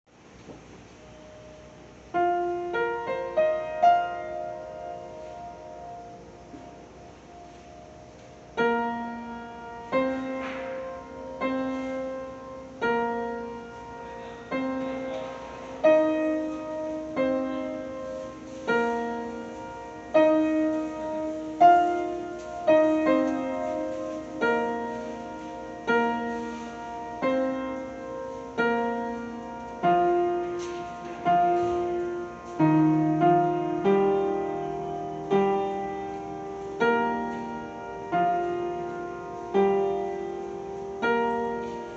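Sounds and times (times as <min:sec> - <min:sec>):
piano bass notes: 0:00.1 - 0:41.9
piano chords: 0:00.1 - 0:41.9.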